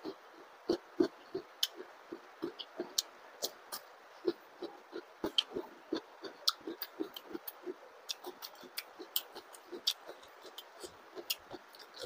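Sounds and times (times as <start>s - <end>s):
chewing mouth sounds: 0.0s - 12.0s.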